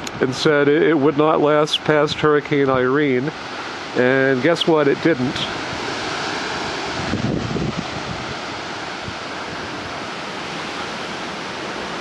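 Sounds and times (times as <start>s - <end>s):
wind buffeting microphone: 0.0s - 12.0s
strong wind rushing: 2.1s - 12.0s.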